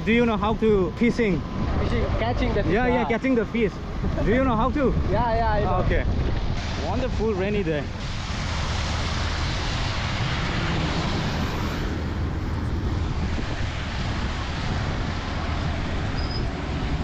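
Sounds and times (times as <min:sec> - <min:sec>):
car driving on wet road: 0:00.0 - 0:17.0.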